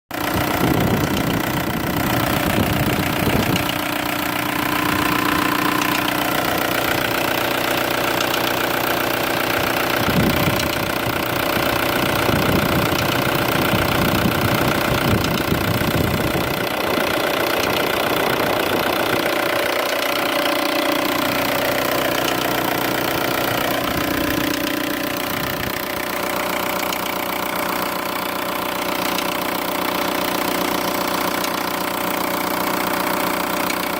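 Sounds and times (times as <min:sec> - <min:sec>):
diesel engine idling with ticking: 0:00.1 - 0:33.9.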